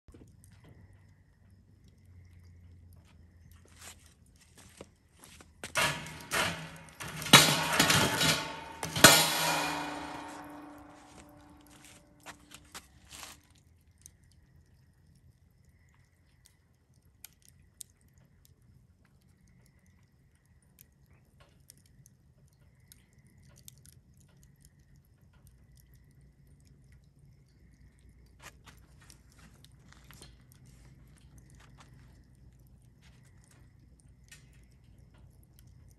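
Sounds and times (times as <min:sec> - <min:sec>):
low rumble of flames: 0:00.1 - 0:35.9
wood fire crackling and popping: 0:03.4 - 0:35.9.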